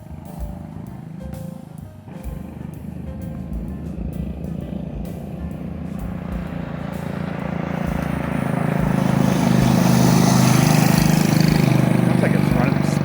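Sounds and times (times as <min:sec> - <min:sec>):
mini bike engine running: 0:00.0 - 0:13.0.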